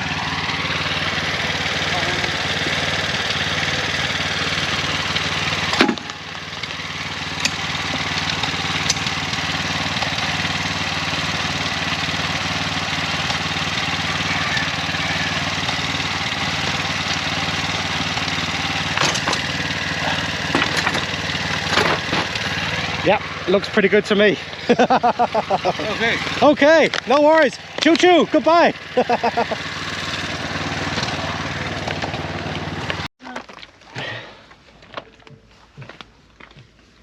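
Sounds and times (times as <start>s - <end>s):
small engine running: 0.0s - 33.1s, 34.0s - 34.4s.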